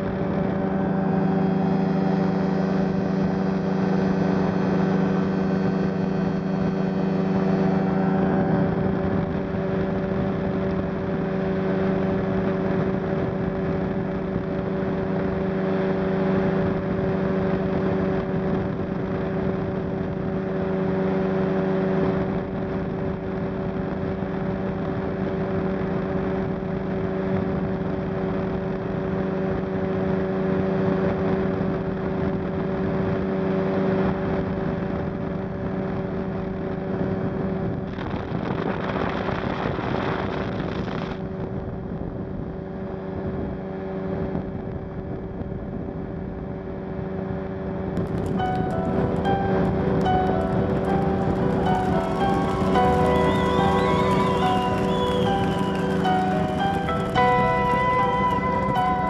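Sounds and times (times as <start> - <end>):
aircraft engine and propeller droning: 0.0 - 36.1, 47.8 - 59.0.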